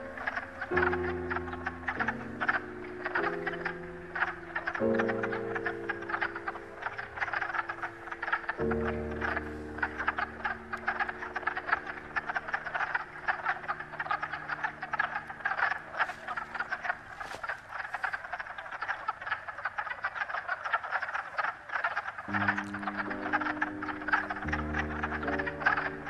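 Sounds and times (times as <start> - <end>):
chorus of frogs calling: 0.0 - 26.0.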